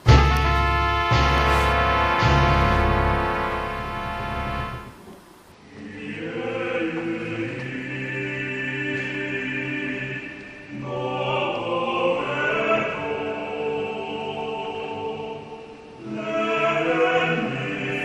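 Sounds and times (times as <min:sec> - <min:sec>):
choir singing sustained chords: 0:00.0 - 0:05.0, 0:05.6 - 0:18.0.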